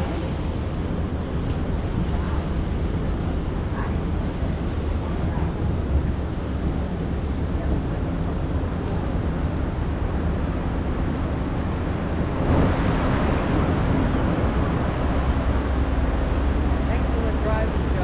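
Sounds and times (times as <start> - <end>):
ferry engines rumbling: 0.0 - 18.0
rushing water: 0.0 - 18.0
rushing wind: 0.0 - 18.0.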